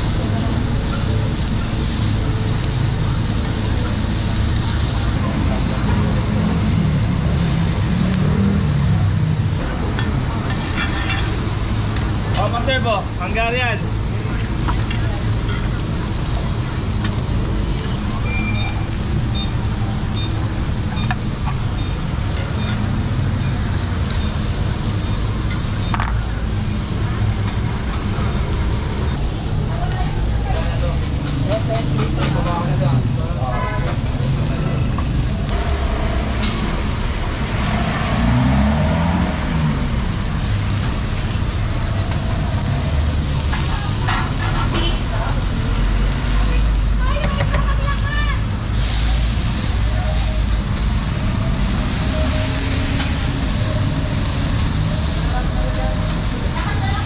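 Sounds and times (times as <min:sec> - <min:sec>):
passing vehicle engine: 0:00.0 - 0:13.2, 0:13.8 - 0:57.0
food sizzling on hot plate: 0:00.0 - 0:32.7, 0:33.5 - 0:57.0
street traffic rumble: 0:00.0 - 0:57.0.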